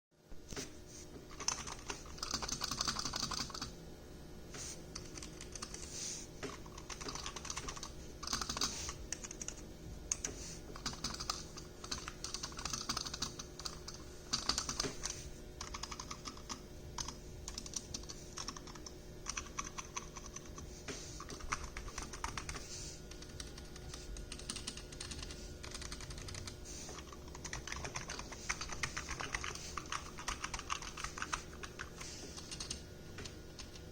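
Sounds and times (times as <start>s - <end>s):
keyboard keystrokes clattering: 1.3s - 3.7s, 6.5s - 20.5s, 21.3s - 33.9s.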